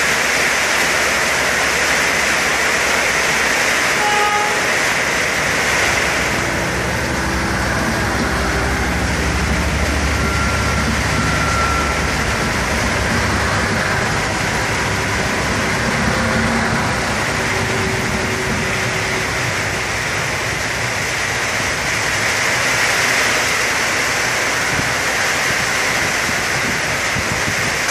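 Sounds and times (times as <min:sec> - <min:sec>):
diesel train rumble: 0:00.0 - 0:27.9
heavy rain: 0:00.0 - 0:27.9.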